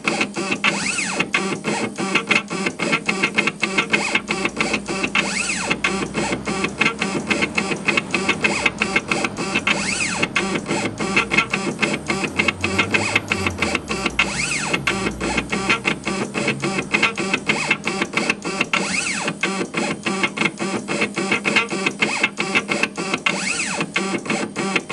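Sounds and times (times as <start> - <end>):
rapid stepping clicks: 0.0 - 24.9
stepper motor whine: 0.7 - 21.2.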